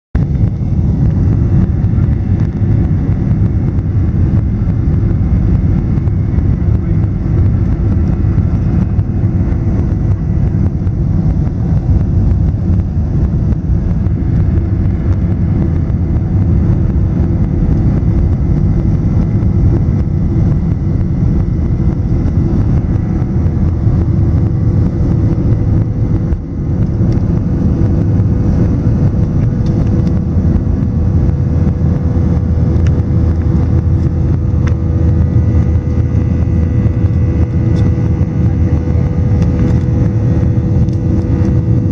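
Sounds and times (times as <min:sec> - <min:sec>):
jet engine rumble in cabin: 0:00.1 - 0:41.9
jet engine whine: 0:00.1 - 0:41.9.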